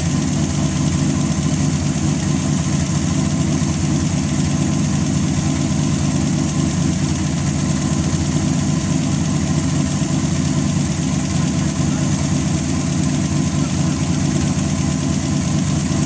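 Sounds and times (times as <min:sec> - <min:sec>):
race car engine idling: 0:00.0 - 0:16.0.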